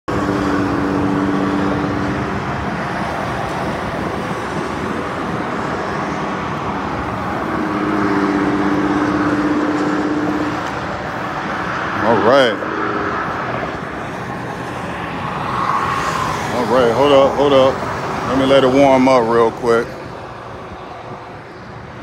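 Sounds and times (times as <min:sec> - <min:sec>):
road traffic passing: 0:00.0 - 0:22.0
low vehicle hum: 0:00.1 - 0:18.6.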